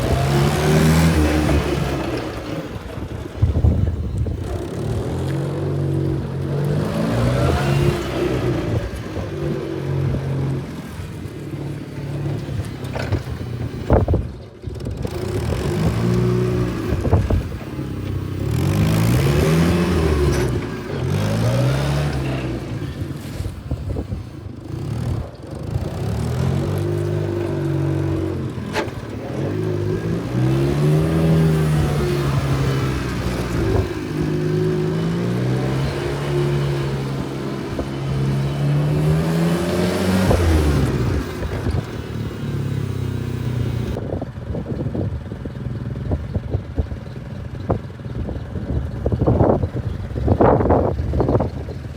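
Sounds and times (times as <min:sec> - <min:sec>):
forklift engine revving: 0:00.0 - 0:44.1.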